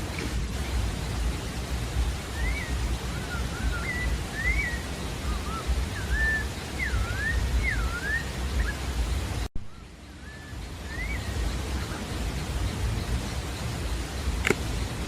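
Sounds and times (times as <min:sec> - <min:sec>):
bird whistling song: 0:00.0 - 0:15.0
low background rumble: 0:00.0 - 0:15.0.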